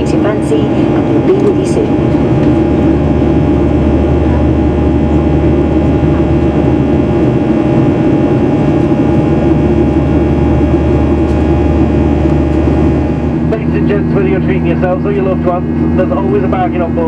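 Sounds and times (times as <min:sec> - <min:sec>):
airplane cabin engine noise: 0:00.0 - 0:17.0
low hum: 0:00.0 - 0:17.0.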